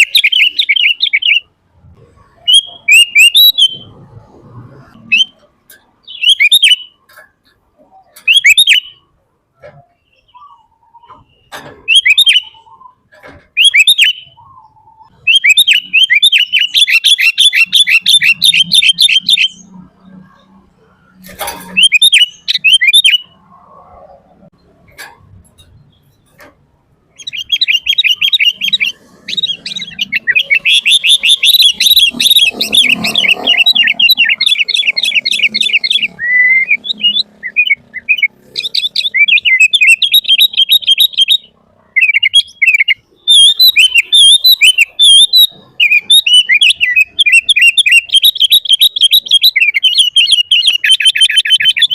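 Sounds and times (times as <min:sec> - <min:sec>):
bulbul singing: 0:00.0 - 0:51.9.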